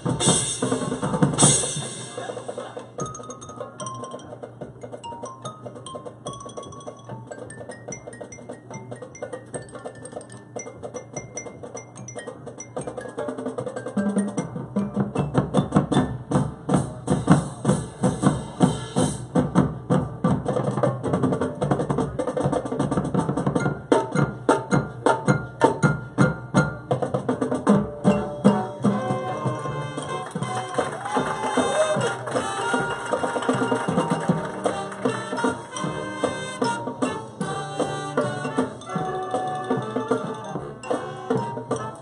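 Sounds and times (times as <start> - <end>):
drum and percussion hits: 0.0 - 42.0
marching band playing: 0.0 - 42.0.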